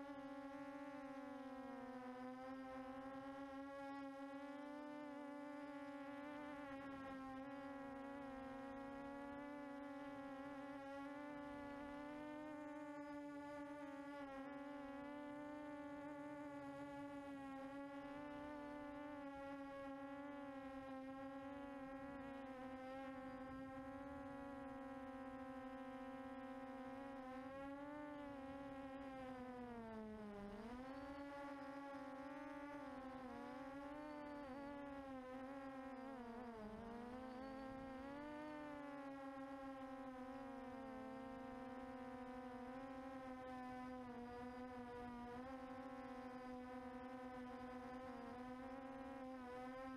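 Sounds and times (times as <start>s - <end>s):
quadcopter motors buzzing: 0.0s - 49.9s.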